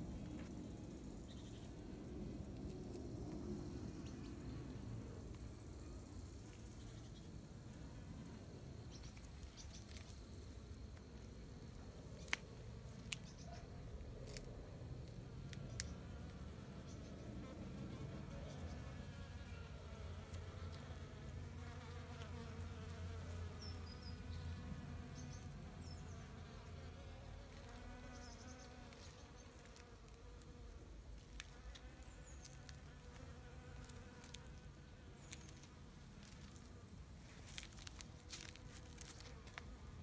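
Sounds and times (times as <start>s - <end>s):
flying insects buzzing: 0.0s - 40.0s.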